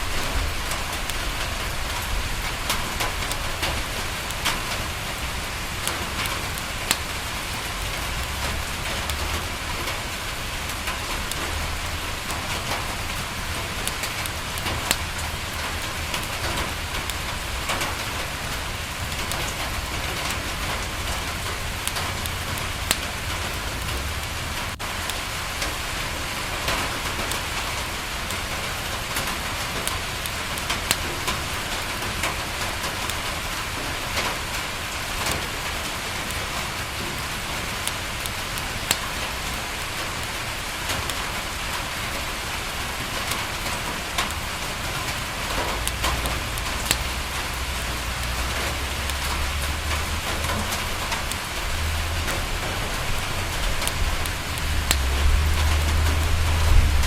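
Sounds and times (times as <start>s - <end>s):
rain falling on a window: 0.0s - 57.0s
wood fire popping and crackling: 0.0s - 57.0s.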